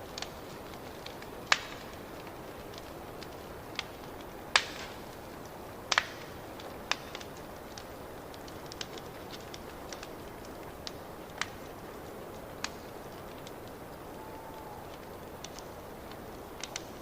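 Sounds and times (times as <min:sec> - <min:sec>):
wood fire crackling in a fireplace: 0:00.0 - 0:17.0.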